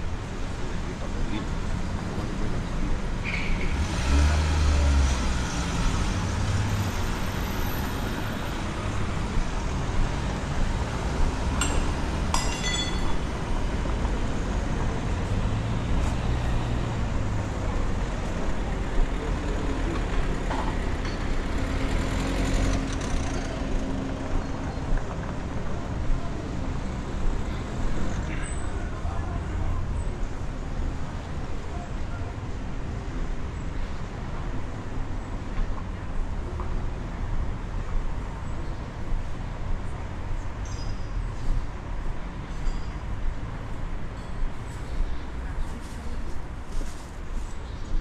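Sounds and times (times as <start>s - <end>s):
road traffic noise: 0.0s - 48.0s.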